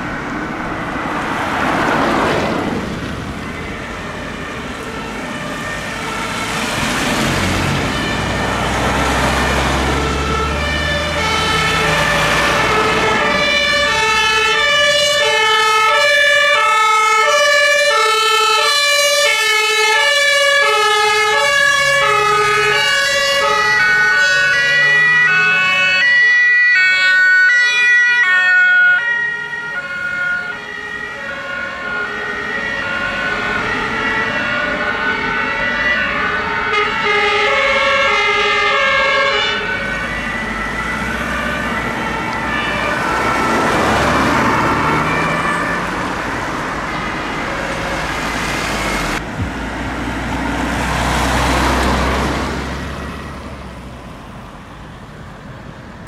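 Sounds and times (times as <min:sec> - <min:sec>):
road noise: 0:00.0 - 0:56.0
two-tone emergency sirens: 0:00.0 - 0:56.0
vehicle engine: 0:00.0 - 0:56.0.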